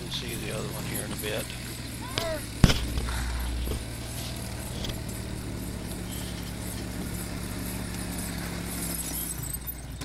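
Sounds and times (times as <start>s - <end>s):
four-wheeler engine running: 0.0s - 10.0s.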